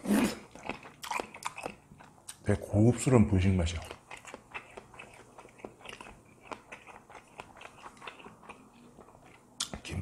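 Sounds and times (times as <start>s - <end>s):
close chewing mouth clicks: 0.4s - 2.4s, 3.7s - 9.8s.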